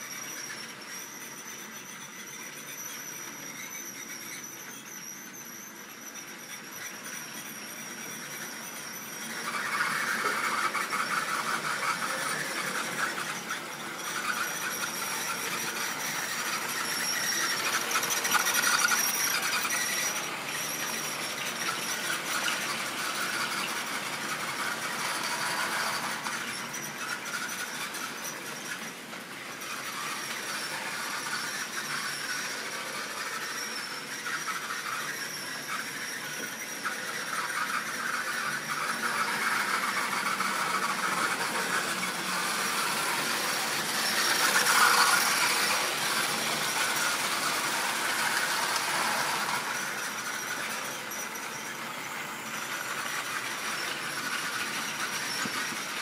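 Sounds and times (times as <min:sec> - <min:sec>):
high-pitched wheel squeal: 0:00.0 - 0:56.0
model train wheels rattling: 0:00.0 - 0:56.0.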